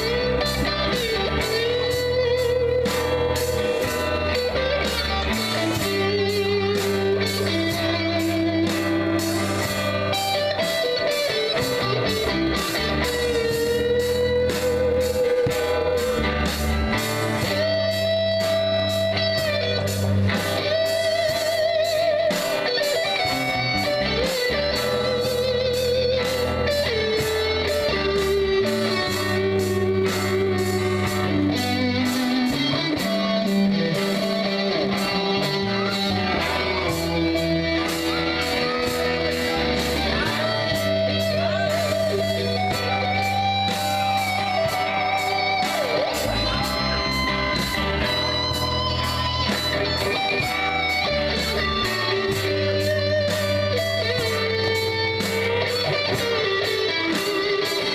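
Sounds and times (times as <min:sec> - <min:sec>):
bending lead guitar: 0:00.0 - 0:57.9
live rock band playing: 0:00.0 - 0:57.9.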